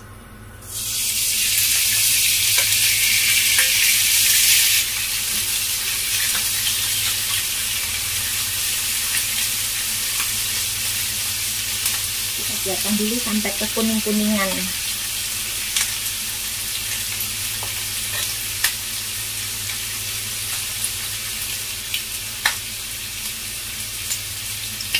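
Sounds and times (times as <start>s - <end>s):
meat sizzling in hot oil: 0.6s - 24.9s.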